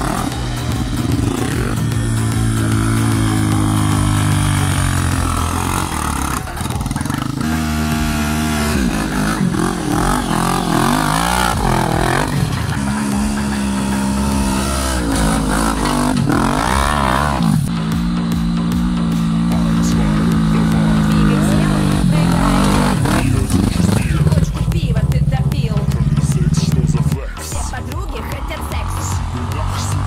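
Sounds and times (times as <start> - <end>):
quad engine revving hard: 0.0 - 30.0.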